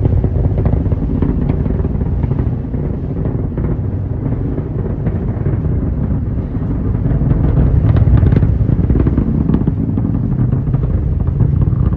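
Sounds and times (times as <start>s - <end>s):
rocket engines rumbling: 0.0s - 11.9s.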